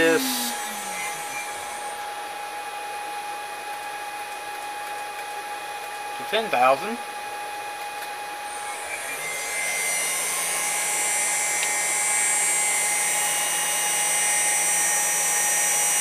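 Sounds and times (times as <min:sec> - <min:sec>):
router spindle high whine: 0:00.0 - 0:04.2, 0:07.0 - 0:16.0.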